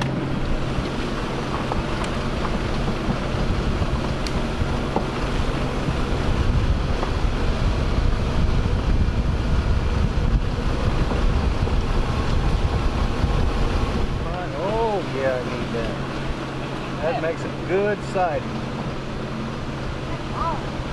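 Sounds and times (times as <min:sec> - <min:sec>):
steady low rumble: 0:00.0 - 0:20.9
wind buffeting microphone: 0:00.0 - 0:20.9.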